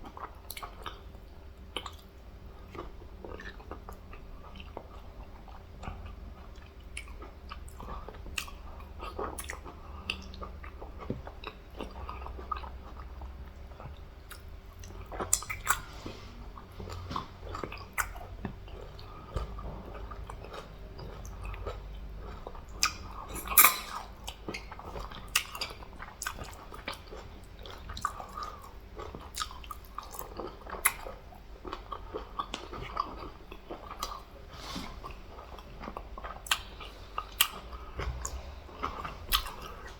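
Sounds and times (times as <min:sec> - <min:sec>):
chewing and mouth smacks: 0:00.0 - 0:39.9
low steady hum: 0:00.0 - 0:39.9.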